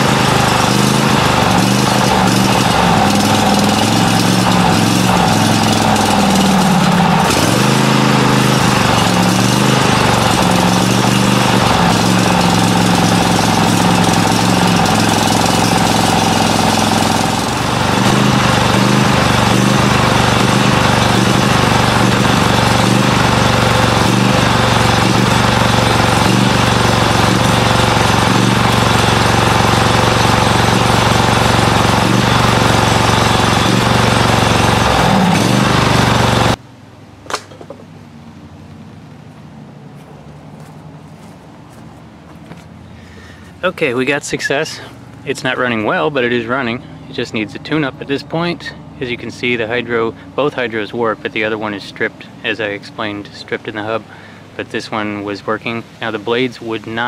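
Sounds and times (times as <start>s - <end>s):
mower engine running unevenly: 0.0s - 36.7s, 40.0s - 55.6s.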